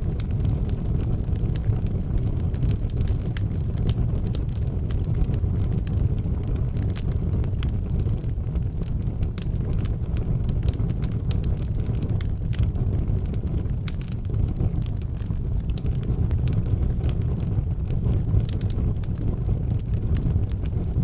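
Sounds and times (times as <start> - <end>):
fire low rumble: 0.0 - 21.0
wood fire crackling: 0.0 - 21.0.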